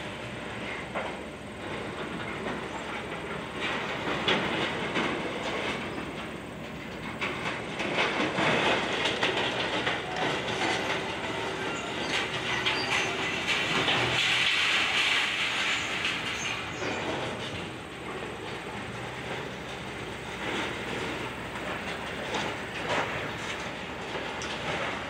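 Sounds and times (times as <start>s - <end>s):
excavator engine running: 0.0s - 25.0s
debris crunching and clattering: 0.2s - 25.0s.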